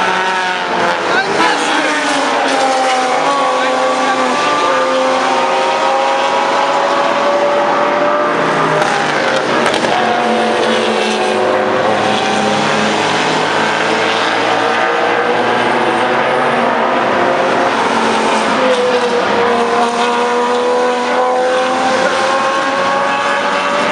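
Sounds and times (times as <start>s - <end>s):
race car engines accelerating: 0.0s - 23.9s.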